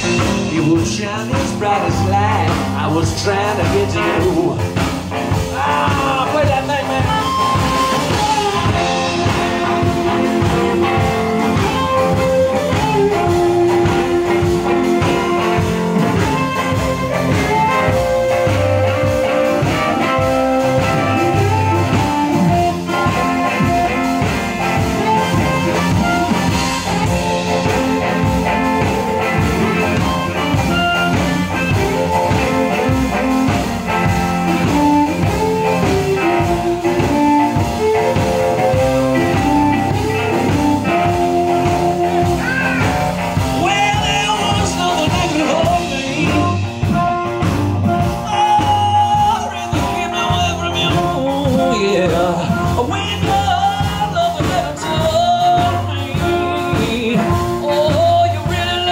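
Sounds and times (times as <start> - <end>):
drums with steady beat: 0.0 - 58.9
electric guitar: 0.0 - 58.9
upright bass: 0.0 - 58.9
harmonica: 5.3 - 53.0.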